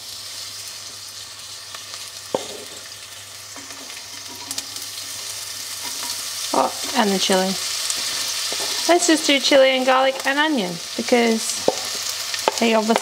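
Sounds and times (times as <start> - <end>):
onion sizzling in frying pan: 0.0 - 13.0.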